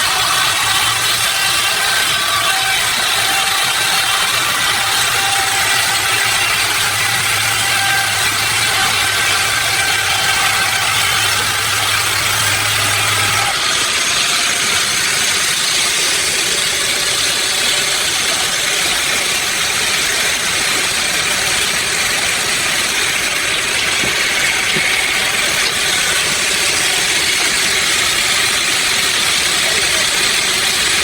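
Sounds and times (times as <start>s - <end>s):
machinery engine drone: 0.0s - 31.0s.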